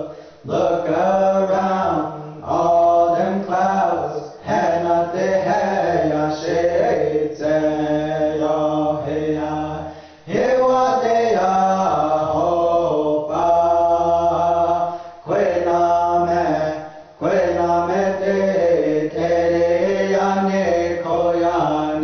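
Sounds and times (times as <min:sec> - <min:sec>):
men singing in chorus: 0:00.0 - 0:22.0.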